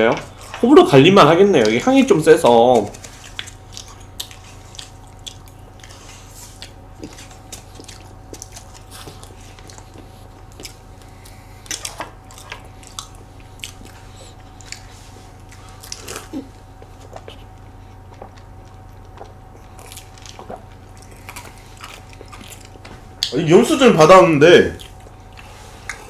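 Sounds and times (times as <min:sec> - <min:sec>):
steady low hum: 0:00.0 - 0:26.0
soft chewing: 0:01.5 - 0:23.4, 0:24.6 - 0:26.0.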